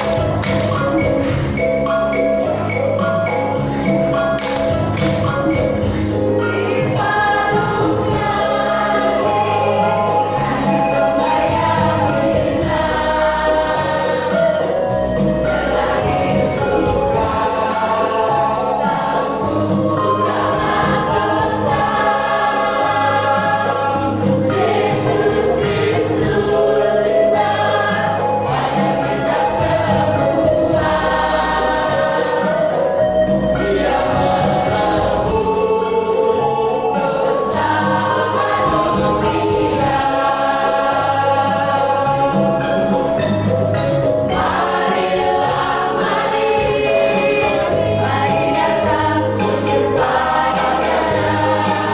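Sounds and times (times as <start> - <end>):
church choir singing: 0.0 - 51.9
instrumental accompaniment: 0.0 - 51.9.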